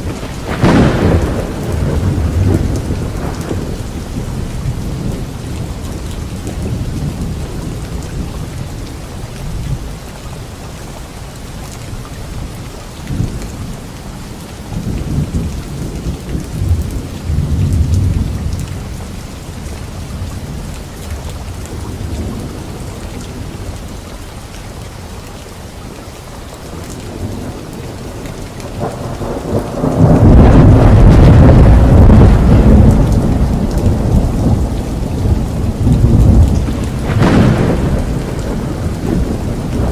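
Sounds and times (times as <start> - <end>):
thunder rumbling: 0.0 - 9.9, 13.1 - 24.0, 26.7 - 39.9
rain falling on leaves: 0.0 - 39.9.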